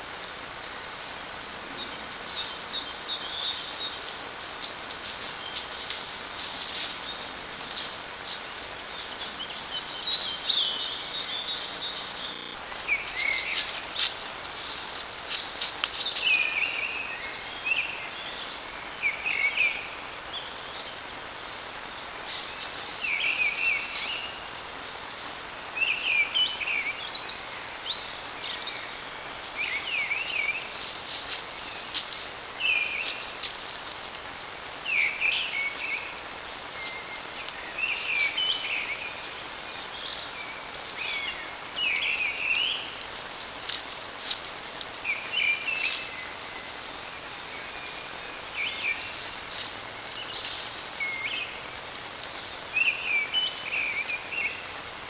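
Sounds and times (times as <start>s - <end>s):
microphone hiss: 0.0s - 55.0s
songbird singing: 0.0s - 55.0s.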